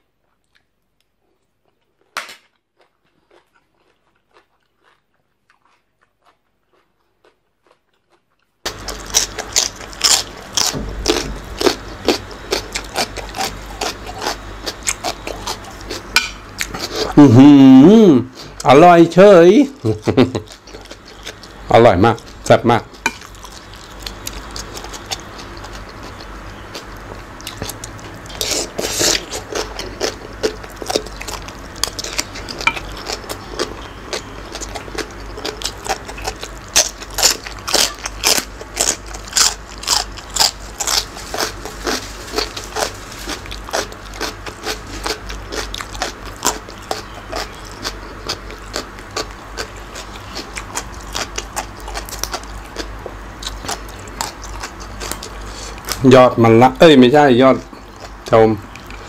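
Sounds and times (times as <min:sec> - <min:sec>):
man chewing with wet crunching: 0:00.0 - 0:59.0.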